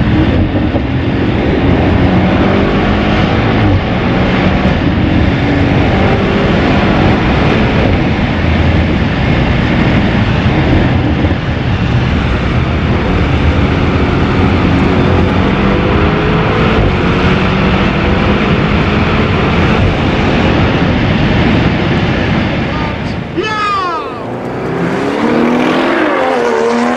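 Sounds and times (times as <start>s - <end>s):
car engine drone: 0.0s - 26.9s
road noise: 0.0s - 26.9s.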